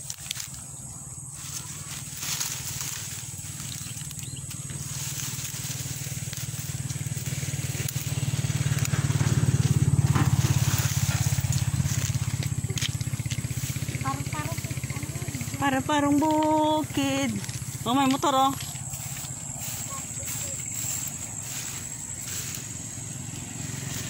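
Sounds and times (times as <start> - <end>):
motorcycle engine approaching: 0.0 - 24.0.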